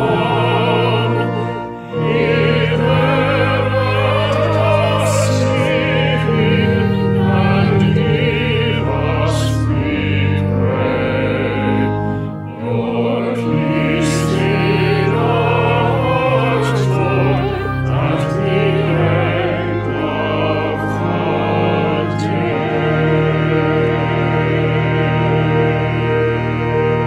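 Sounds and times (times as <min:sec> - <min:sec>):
organ chords: 0:00.0 - 0:27.0
people singing a hymn: 0:00.0 - 0:27.0.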